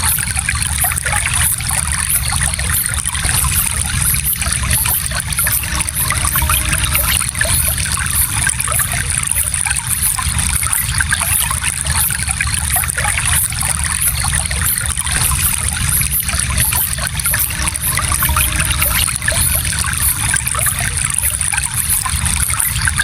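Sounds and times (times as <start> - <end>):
stream burbling over stones: 0.0 - 23.0.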